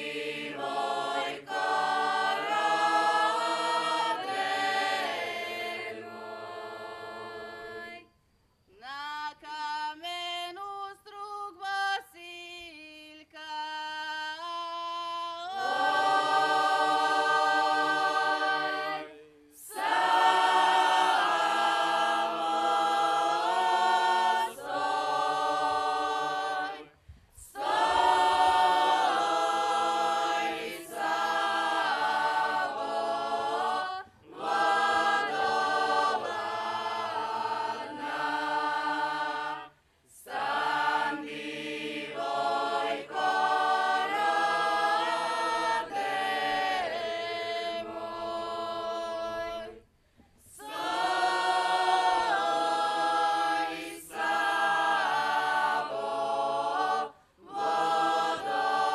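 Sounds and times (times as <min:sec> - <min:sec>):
group singing folk song: 0:00.0 - 0:58.9.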